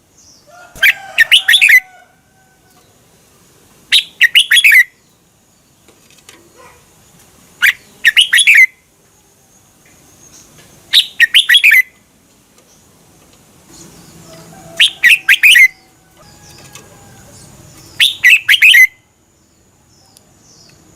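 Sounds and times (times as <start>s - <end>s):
bird warbling song: 0.0s - 2.1s, 2.7s - 6.8s, 7.6s - 8.8s, 9.5s - 12.0s, 12.6s - 20.9s.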